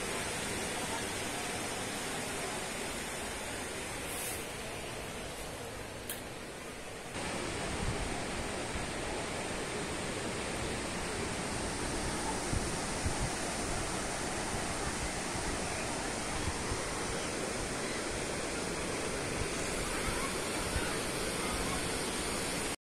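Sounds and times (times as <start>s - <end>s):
sea surf: 0.0s - 5.9s, 7.1s - 22.8s
wind gusts: 0.0s - 22.8s.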